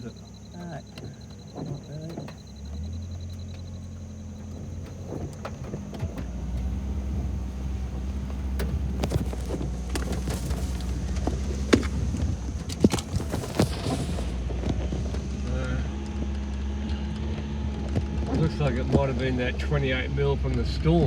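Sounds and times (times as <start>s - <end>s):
engine and tyre hum: 0.0s - 21.0s
knocks and rattles over bumps: 0.0s - 21.0s.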